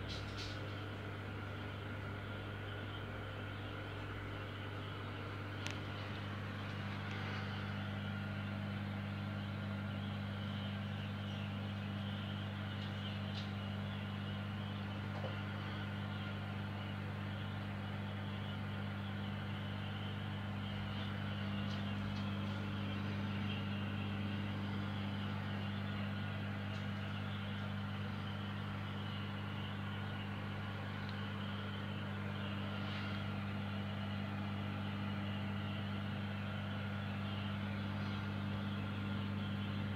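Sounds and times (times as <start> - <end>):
low electric hum: 0.0 - 39.9.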